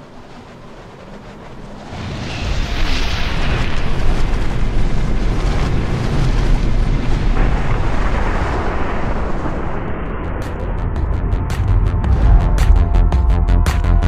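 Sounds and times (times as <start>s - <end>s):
deep noisy rumble with hiss: 0.0s - 14.0s.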